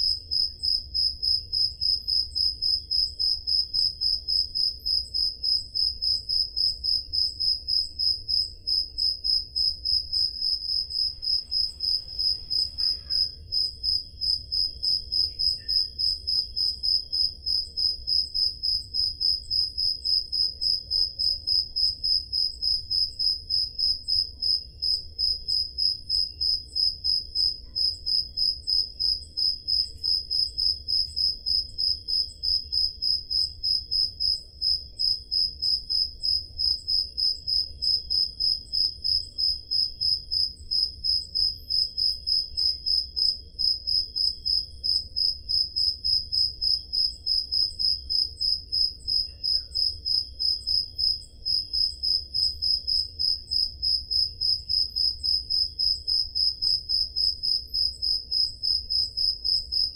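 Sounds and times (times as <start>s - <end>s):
faint crickets trilling: 0.0s - 59.9s
loud cricket chirping: 0.0s - 59.9s.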